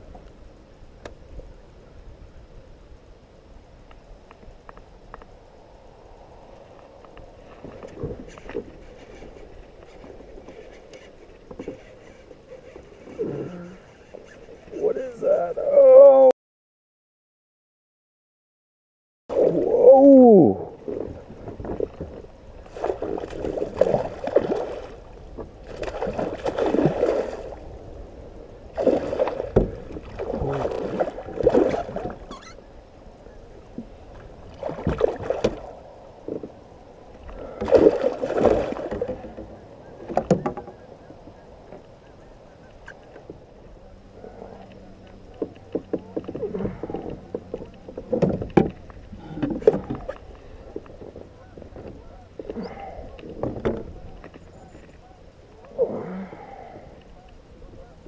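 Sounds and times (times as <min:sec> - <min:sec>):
water splashing around kayak: 0:06.4 - 0:15.7, 0:19.3 - 0:58.0.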